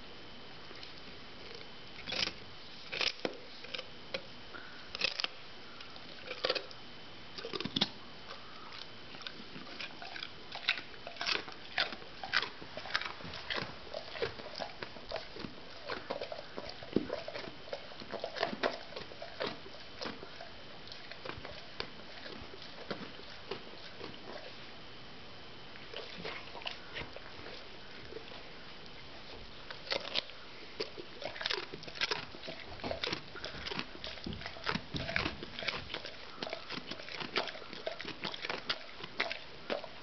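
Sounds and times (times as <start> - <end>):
dog crunching a carrot: 0.6 - 24.9, 25.5 - 40.0.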